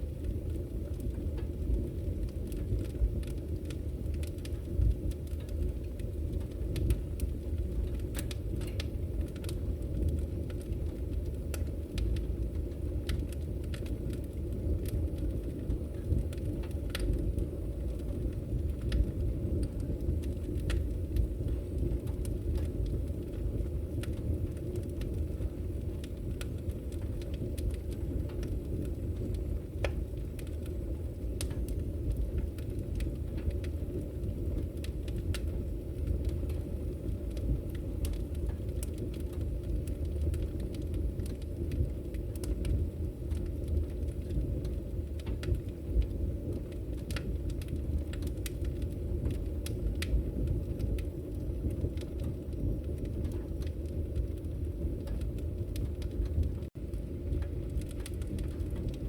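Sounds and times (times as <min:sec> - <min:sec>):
fire rumbling: 0:00.0 - 0:59.0
wood crackling and popping: 0:00.0 - 0:59.0.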